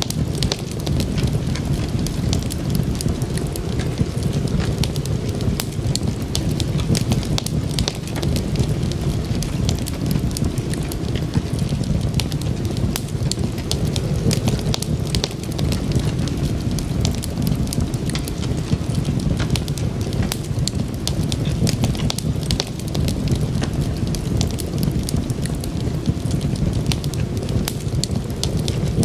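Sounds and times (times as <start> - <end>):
low rumble of burning: 0.0 - 29.0
wood fire crackling and popping: 0.0 - 29.0.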